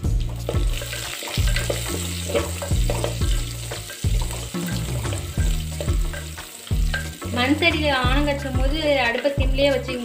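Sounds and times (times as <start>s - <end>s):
background music with bass: 0.0s - 10.0s
onions sizzling in hot oil: 0.0s - 10.0s.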